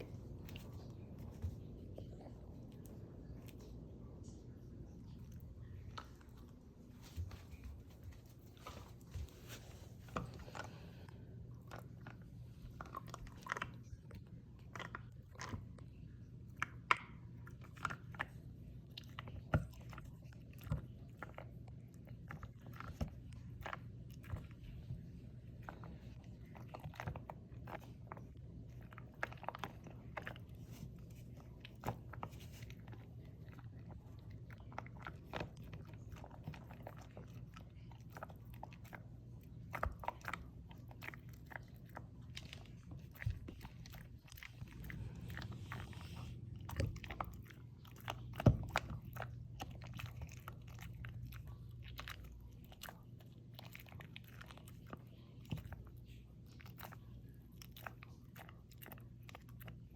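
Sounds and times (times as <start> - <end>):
dog chewing crunchy treat: 0.0 - 59.9.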